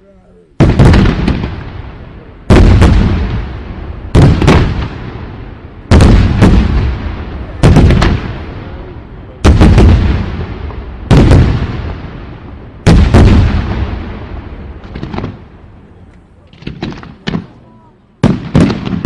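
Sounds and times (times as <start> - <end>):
rumbling echo: 0.0 - 19.0
fireworks booming: 0.5 - 19.0
fireworks cracking: 0.6 - 19.0.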